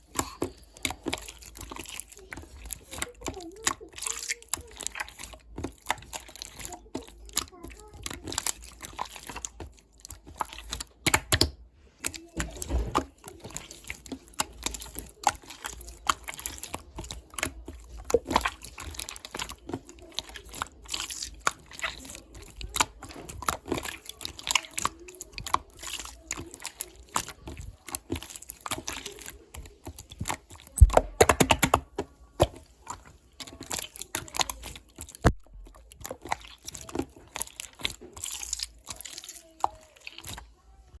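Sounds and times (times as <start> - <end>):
slime crackling and popping: 0.0 - 40.6.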